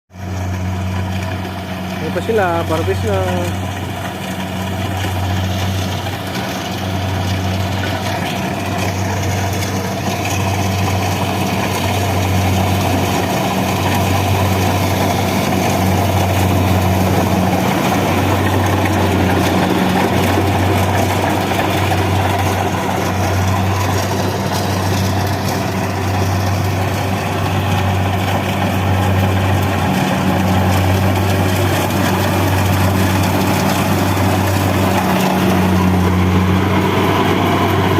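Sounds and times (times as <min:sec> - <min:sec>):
combine harvester engine hum: 0:00.1 - 0:37.9
machinery clatter: 0:00.2 - 0:37.9.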